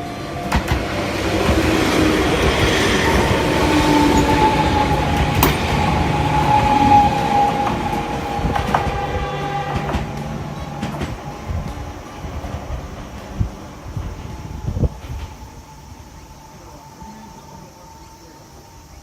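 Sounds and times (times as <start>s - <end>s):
high wheel squeal: 0.0s - 19.0s
train wheels rumbling on rails: 0.0s - 19.0s.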